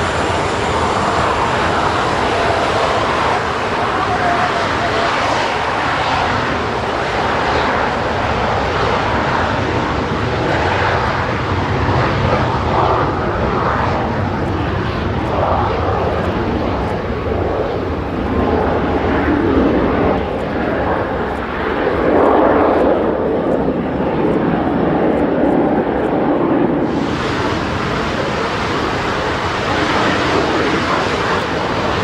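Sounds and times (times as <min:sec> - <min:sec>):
jet engine noise: 0:00.0 - 0:32.0.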